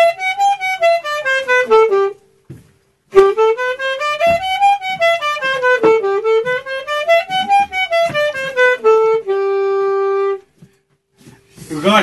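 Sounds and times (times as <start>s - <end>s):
accordion playing scale: 0.0s - 2.2s, 3.1s - 10.6s, 11.3s - 12.0s.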